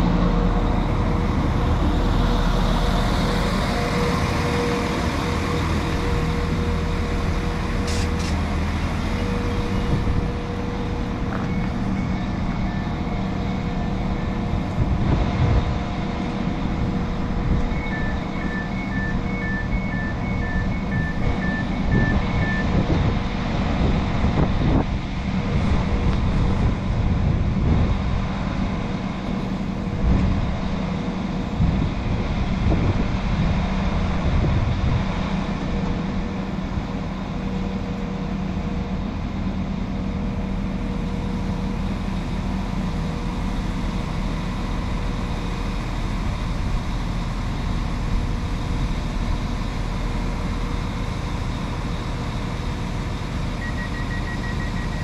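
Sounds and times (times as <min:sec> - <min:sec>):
train diesel engines idling: 0:00.0 - 0:55.0.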